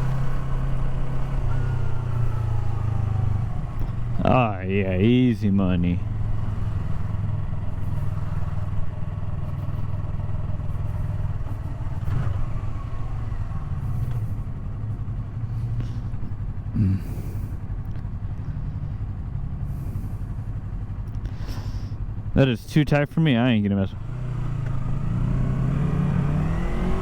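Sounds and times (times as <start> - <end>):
motorcycle engine cruising: 0.0 - 27.0
road noise: 0.0 - 27.0.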